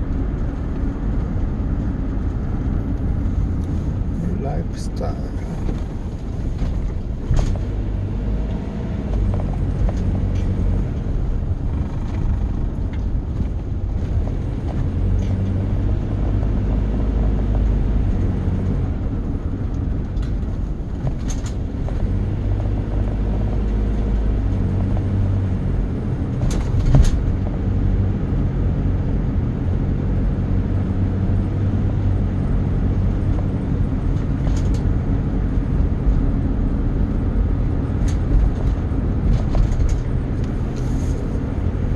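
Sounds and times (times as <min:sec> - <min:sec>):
vehicle engine low rumble: 0:00.0 - 0:41.9.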